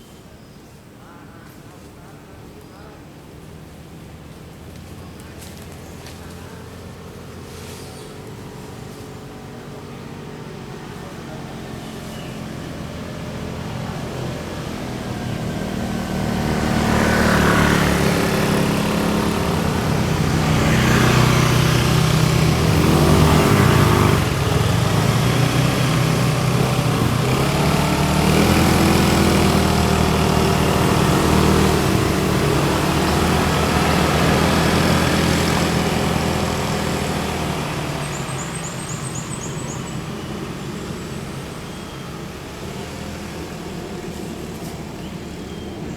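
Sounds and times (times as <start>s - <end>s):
vehicle engine revving: 3.8s - 45.9s.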